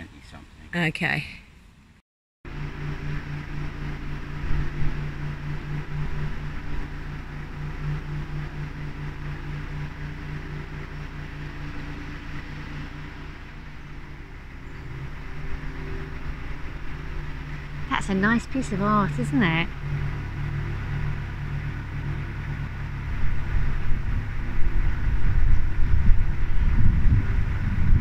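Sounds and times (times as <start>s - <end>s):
boat engine droning: 2.5s - 28.0s.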